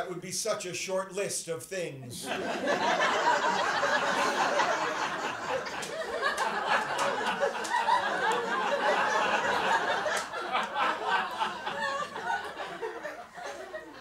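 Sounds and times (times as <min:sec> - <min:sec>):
audience laughing: 0:02.2 - 0:14.0.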